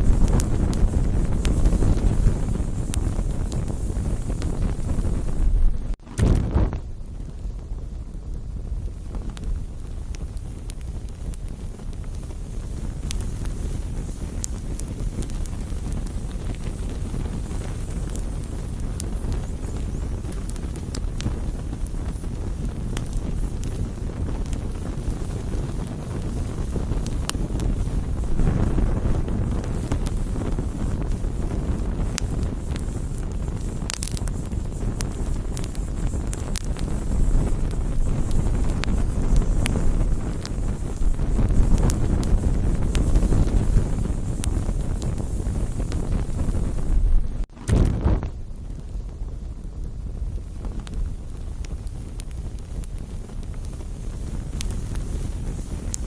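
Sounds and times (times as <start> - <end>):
campfire crackling and popping: 0.0 - 56.0
low rumble of fire: 0.0 - 56.0.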